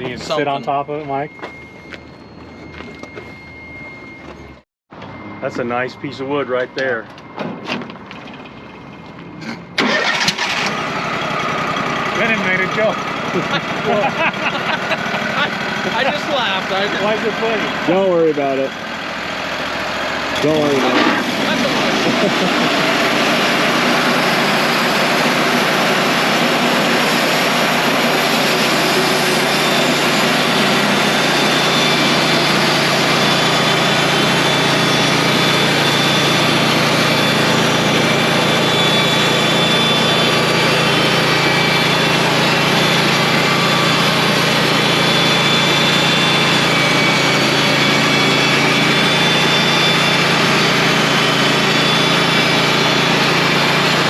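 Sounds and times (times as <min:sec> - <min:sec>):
band sawmill engine running: 0:00.0 - 0:54.0.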